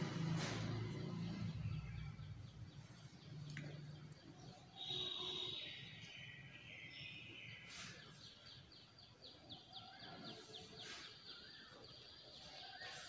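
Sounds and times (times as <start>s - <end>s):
faint bird chirping: 0.8s - 13.0s.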